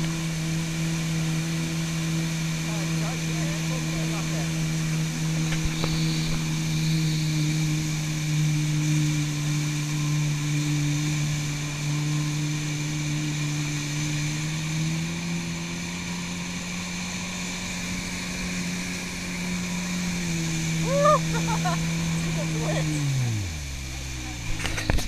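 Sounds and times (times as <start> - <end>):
jet ski engine running: 0.0 - 25.0
rushing water: 0.0 - 25.0.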